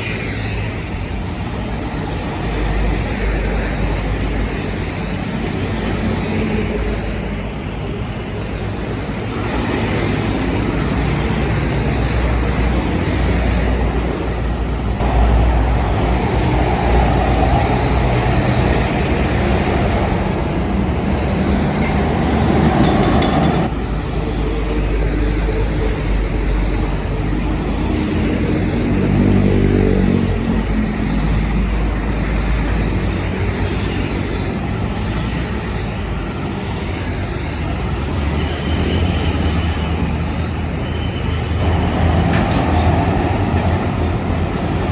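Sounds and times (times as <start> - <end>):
heavy truck engines: 0.0 - 44.9
tyres on road: 0.0 - 44.9.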